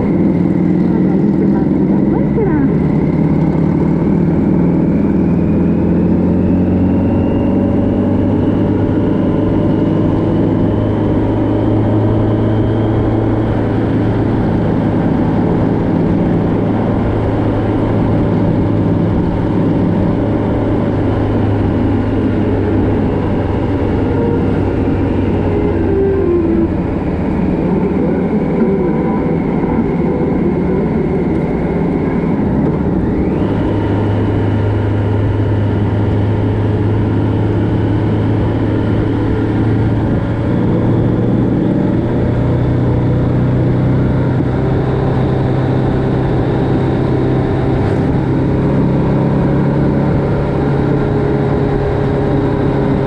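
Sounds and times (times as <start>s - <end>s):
engine whine: 0.0s - 53.0s
motorcycle engine running: 0.0s - 53.0s.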